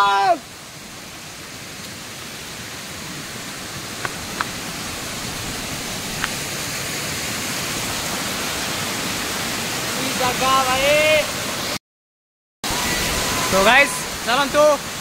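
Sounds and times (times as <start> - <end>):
waterfall rushing: 0.0 - 11.8, 12.7 - 15.0.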